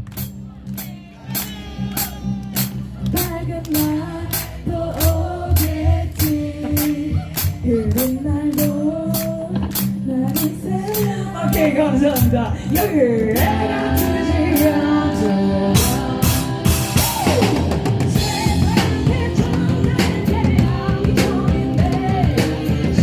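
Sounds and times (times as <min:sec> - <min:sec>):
backing track with steady beat: 0:00.0 - 0:23.0
woman singing a pop ballad: 0:03.1 - 0:16.9, 0:18.2 - 0:23.0.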